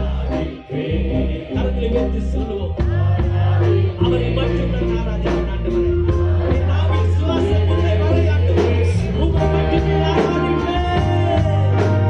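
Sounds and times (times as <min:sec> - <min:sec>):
drum kit with cymbal beat: 0:00.0 - 0:12.0
electric bass: 0:00.0 - 0:12.0
keyboard: 0:00.0 - 0:12.0
man singing into microphone: 0:00.0 - 0:12.0.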